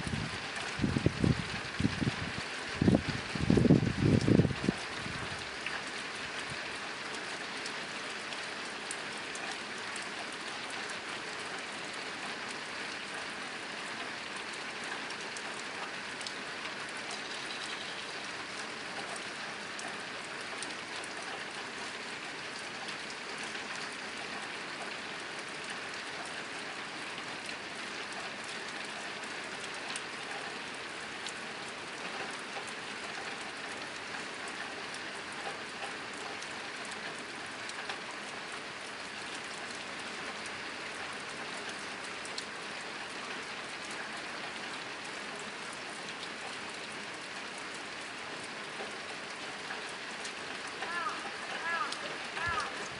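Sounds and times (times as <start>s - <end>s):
rain drumming on a tin roof: 0.0s - 52.9s.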